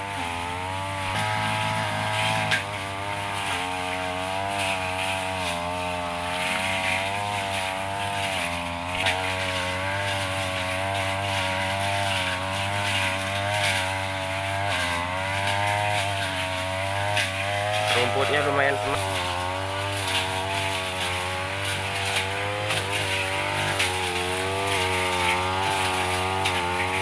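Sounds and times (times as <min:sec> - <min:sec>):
brush cutter engine under load: 0:00.0 - 0:27.0.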